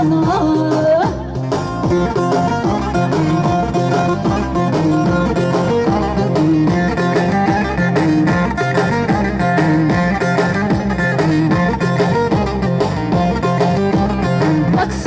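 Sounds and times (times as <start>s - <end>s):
folk dance music over loudspeakers: 0.0s - 15.0s.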